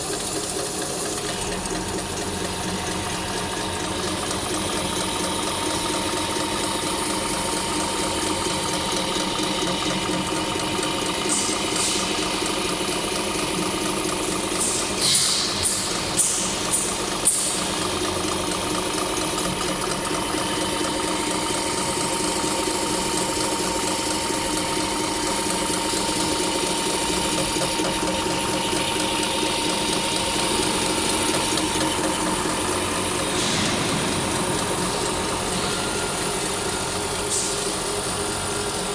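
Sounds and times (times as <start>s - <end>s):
homogenizer machine humming: 0.0s - 38.9s
machine whine: 0.0s - 38.9s.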